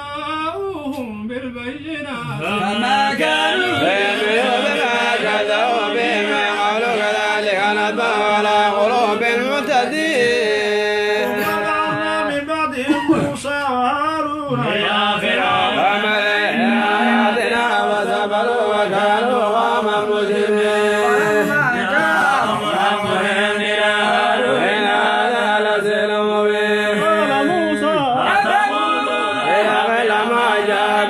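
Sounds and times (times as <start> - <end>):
man reciting melodically: 0.0 - 31.0.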